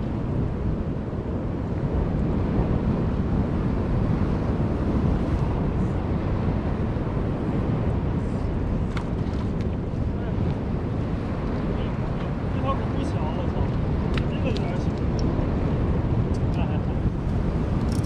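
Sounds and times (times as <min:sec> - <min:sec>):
sea waves washing: 0:00.0 - 0:18.0
wind on microphone: 0:00.0 - 0:18.0.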